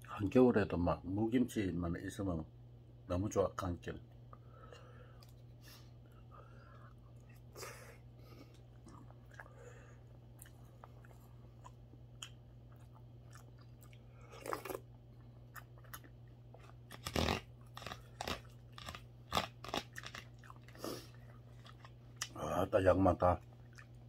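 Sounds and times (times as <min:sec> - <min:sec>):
steady low hum: 0:00.0 - 0:24.0
person chewing and crunching food: 0:04.7 - 0:24.0.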